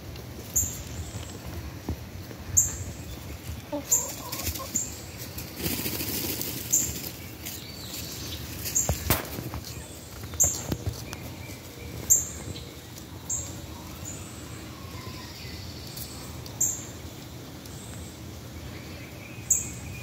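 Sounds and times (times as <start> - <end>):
low outdoor background: 0.0 - 20.0.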